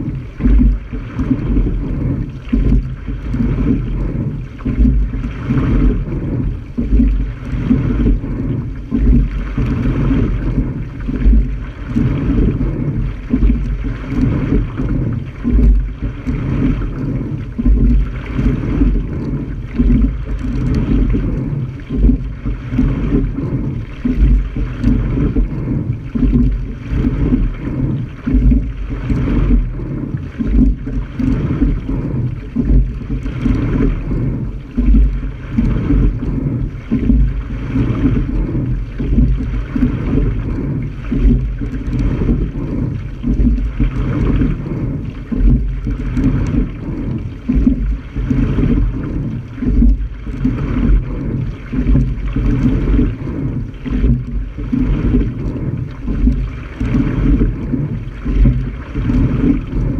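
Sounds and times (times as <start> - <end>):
water rushing along hull: 0.0 - 59.9.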